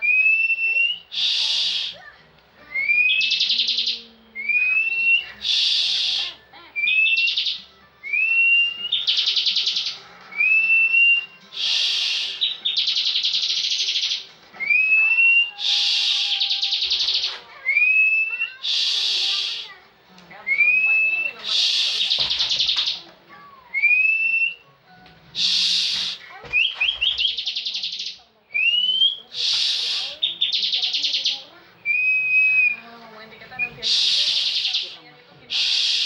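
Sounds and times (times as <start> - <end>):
bird singing whistles and trills: 0.0 - 2.0, 2.6 - 19.7, 20.4 - 23.0, 23.7 - 24.6, 25.4 - 32.9, 33.5 - 36.0.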